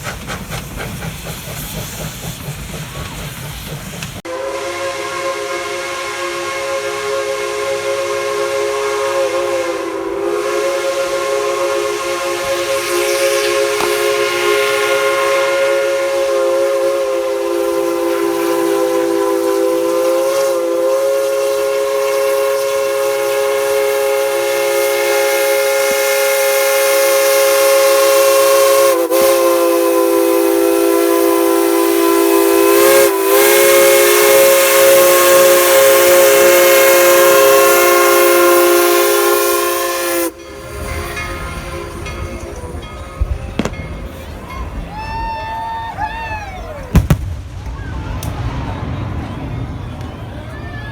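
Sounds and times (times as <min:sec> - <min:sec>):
steam locomotive whistle: 0:04.2 - 0:50.9.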